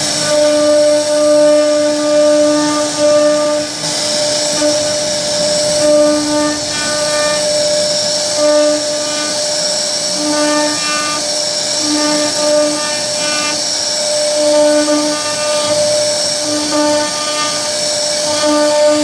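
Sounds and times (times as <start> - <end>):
router spindle high whine: 0.0 - 19.0.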